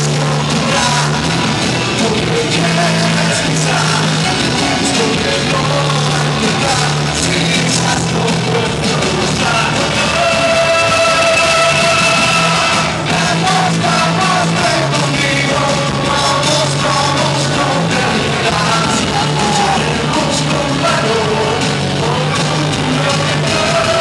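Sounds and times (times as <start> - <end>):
loud rock music: 0.0 - 24.0
man singing into a microphone: 0.0 - 24.0.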